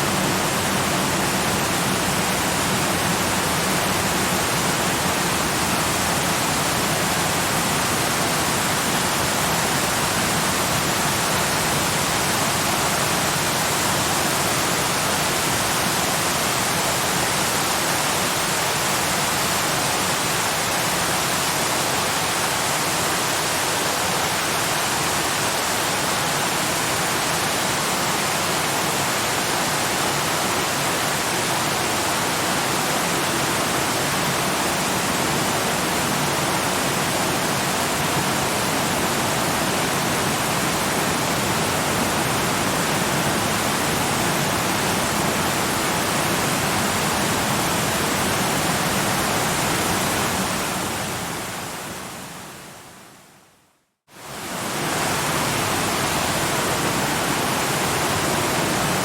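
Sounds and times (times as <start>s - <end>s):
waterfall rushing: 0.0s - 52.6s, 54.2s - 59.0s.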